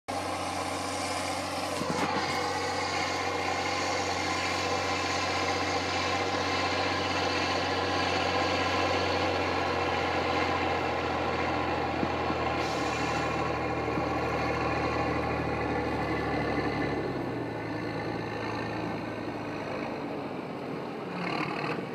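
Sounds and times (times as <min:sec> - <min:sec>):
tractor diesel engine under load: 0:00.0 - 0:21.9.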